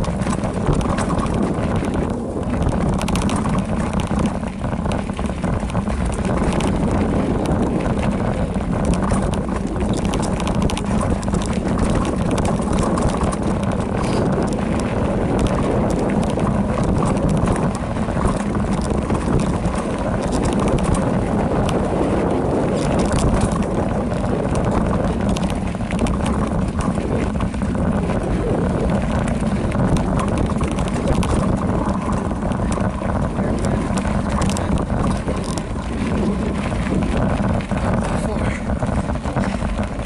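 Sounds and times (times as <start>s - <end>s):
bike clicks and rattles: 0.0s - 40.0s
bike tyres rumbling on dirt: 0.0s - 40.0s
wind rushing over microphone: 0.0s - 40.0s.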